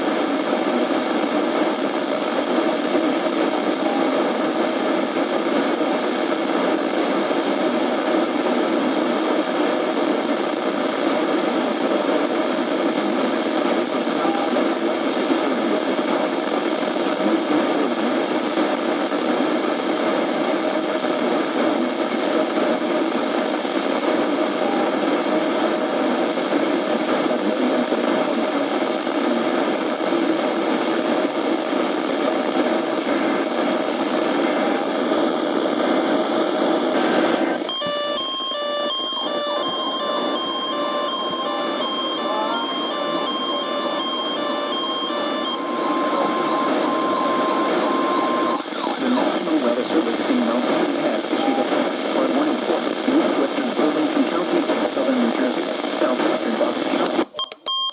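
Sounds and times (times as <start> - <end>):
radio static hiss: 0.0 - 57.4.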